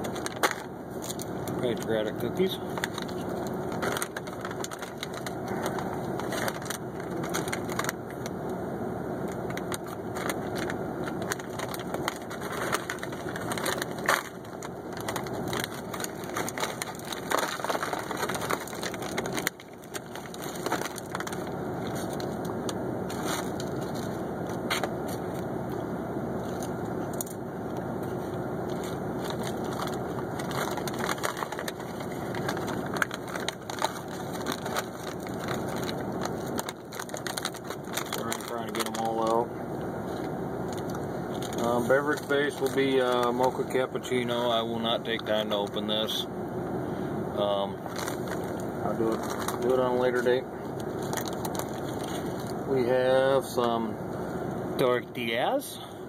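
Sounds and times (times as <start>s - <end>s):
plastic pouch crinkling: 0.0s - 8.4s, 9.3s - 25.5s, 28.7s - 39.4s, 40.1s - 45.8s, 47.8s - 52.6s.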